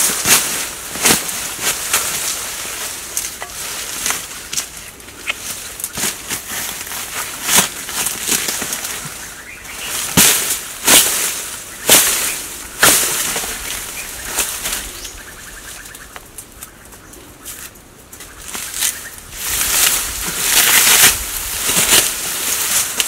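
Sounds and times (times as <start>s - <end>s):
dry leaves ripping and rustling: 0.0s - 16.8s, 17.5s - 23.0s.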